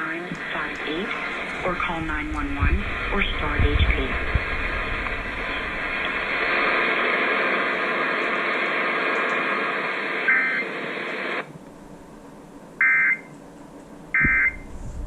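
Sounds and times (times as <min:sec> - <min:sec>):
radio static hiss: 0:00.0 - 0:12.4.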